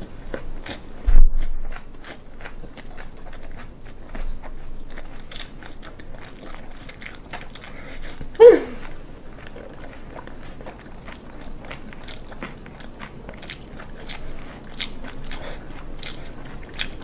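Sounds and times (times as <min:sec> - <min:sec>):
person chewing and crunching: 0:00.0 - 0:17.0.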